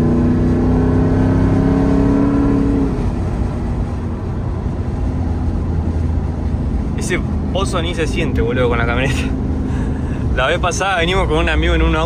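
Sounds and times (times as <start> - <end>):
engine drone inside cab: 0.0 - 12.0.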